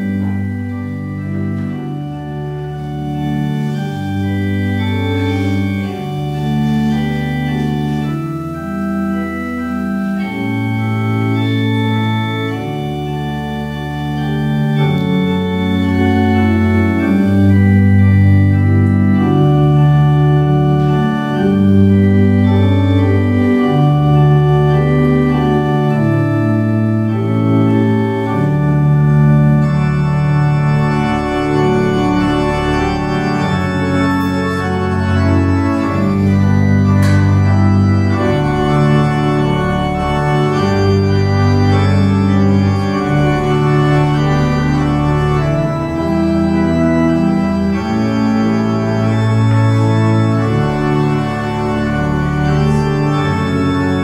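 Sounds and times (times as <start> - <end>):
organ playing held chords: 0.0 - 54.0.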